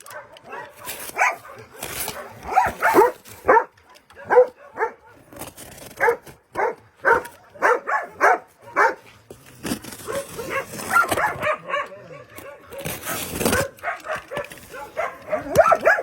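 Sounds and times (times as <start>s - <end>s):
dog barking: 0.0s - 5.3s, 6.0s - 9.1s, 10.0s - 16.0s.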